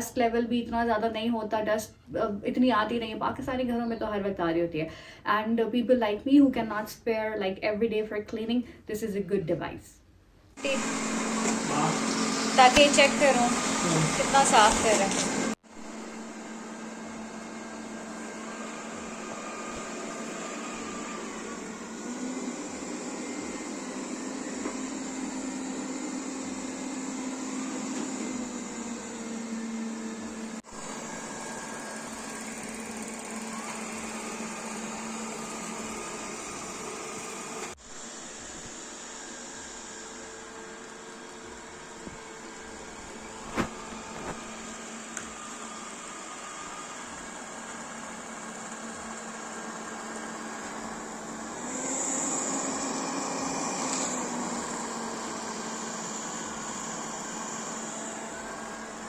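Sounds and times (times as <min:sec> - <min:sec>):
robot vacuum motor hum: 0:10.6 - 0:59.0.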